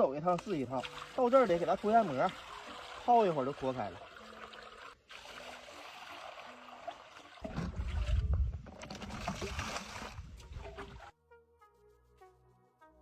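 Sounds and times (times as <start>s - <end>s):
water trickling and splashing: 0.4s - 11.1s.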